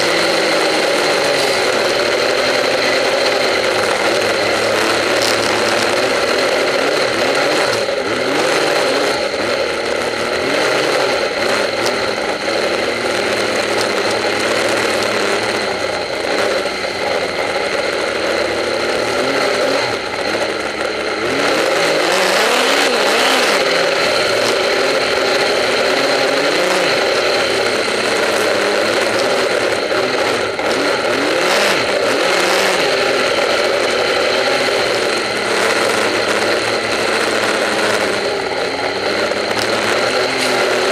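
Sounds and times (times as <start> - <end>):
high whine: 0.0 - 40.9
snowmobile engine revving: 0.0 - 40.9.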